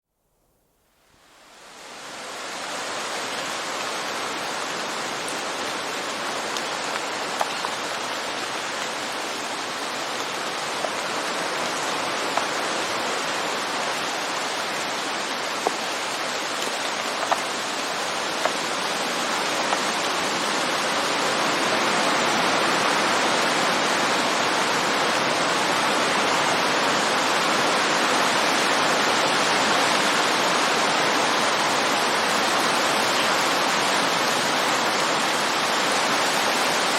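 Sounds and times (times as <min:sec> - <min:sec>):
heavy rain on leaves: 0:00.9 - 0:36.9.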